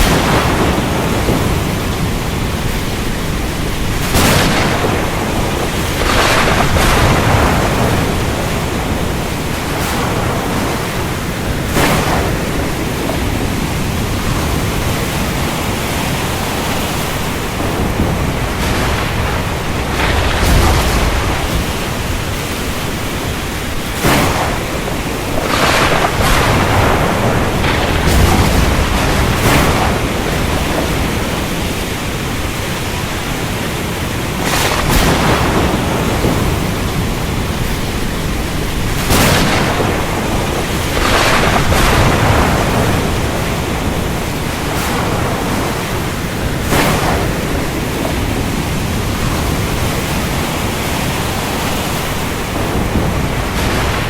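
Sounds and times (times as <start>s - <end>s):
heavy rain: 0.0s - 54.0s
thunder cracks and rumbles: 0.0s - 54.0s.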